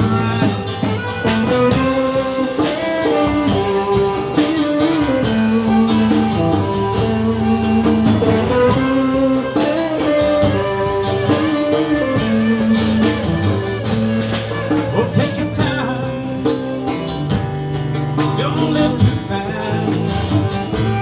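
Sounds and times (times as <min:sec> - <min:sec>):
band playing slow rock song: 0:00.0 - 0:21.0.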